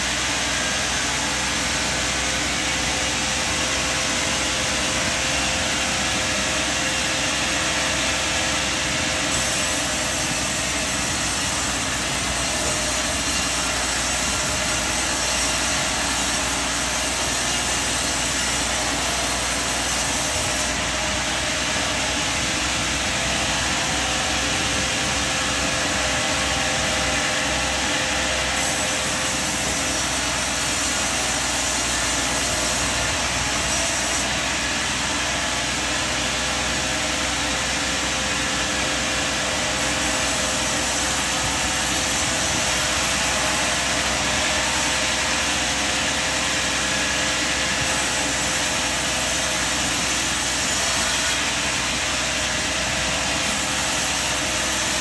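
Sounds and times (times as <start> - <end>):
sawmill machinery running: 0.0 - 55.0.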